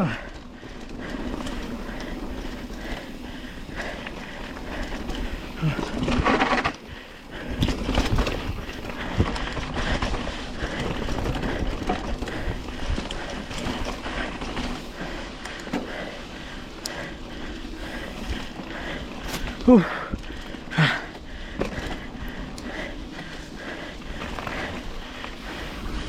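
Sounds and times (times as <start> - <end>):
bike knocks and rattles: 0.0 - 17.4, 18.0 - 23.4
tyre noise on dirt: 1.0 - 26.0.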